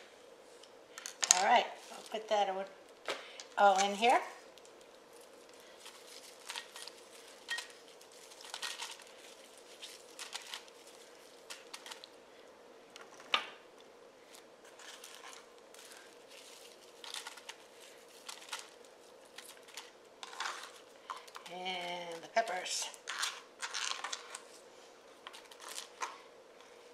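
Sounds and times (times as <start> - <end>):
plastic packaging crinkling: 1.1 - 12.2, 14.3 - 24.6, 25.2 - 26.3.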